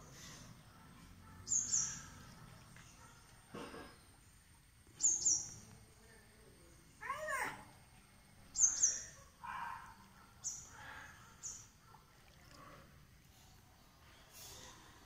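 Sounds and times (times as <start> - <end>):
birds chirping: 0.0 - 7.5, 8.4 - 15.0.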